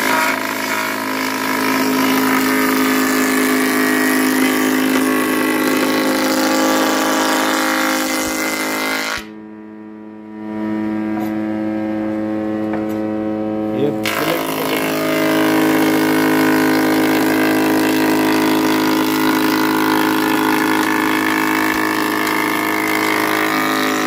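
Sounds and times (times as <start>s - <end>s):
planer cutting wood: 0.0s - 9.4s, 14.0s - 24.0s
machine humming: 0.0s - 24.0s.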